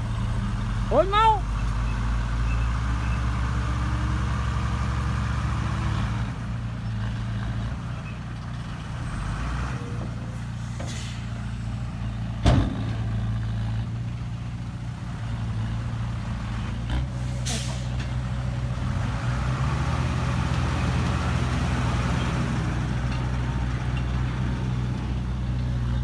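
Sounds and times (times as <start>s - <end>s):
diesel machinery engines humming: 0.0s - 26.0s.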